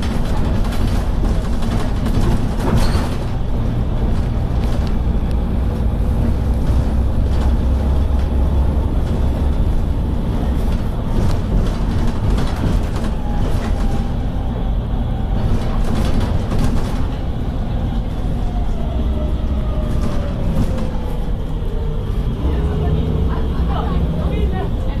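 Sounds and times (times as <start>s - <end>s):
bus engine droning: 0.0s - 25.0s
road rumble: 0.0s - 25.0s.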